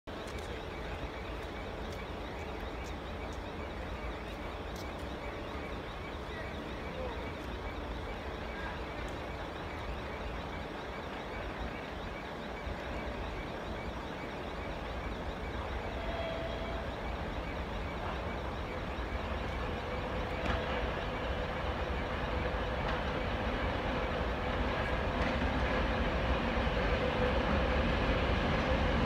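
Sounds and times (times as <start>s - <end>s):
distant road traffic rumble: 0.1s - 29.0s.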